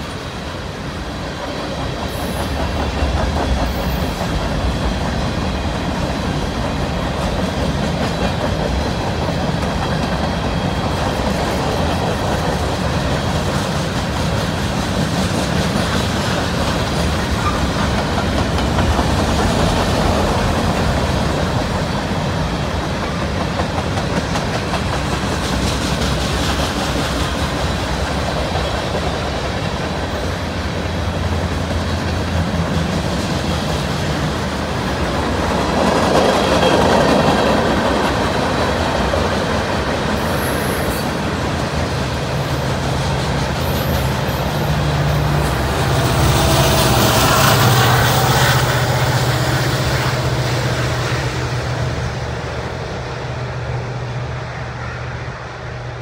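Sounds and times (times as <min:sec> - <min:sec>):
diesel locomotive engine drone: 0:00.0 - 0:56.0
freight cars rumbling past: 0:00.0 - 0:56.0.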